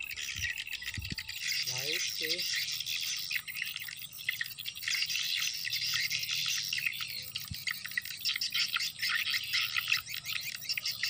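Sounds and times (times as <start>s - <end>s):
birds chirping: 0.0s - 11.0s
insects chirping: 0.0s - 11.0s.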